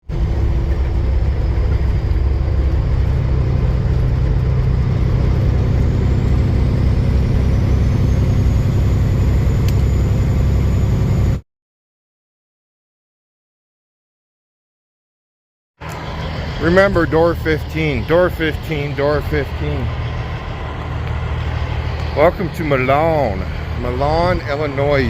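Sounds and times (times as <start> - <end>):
diesel truck engine running: 0.0 - 11.4, 15.8 - 25.0
road noise: 0.0 - 11.4, 15.8 - 25.0.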